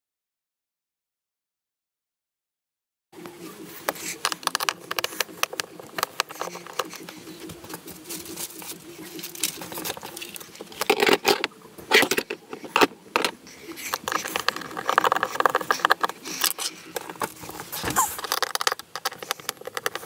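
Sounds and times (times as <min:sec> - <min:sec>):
handling clicks and scrapes: 0:03.2 - 0:20.0.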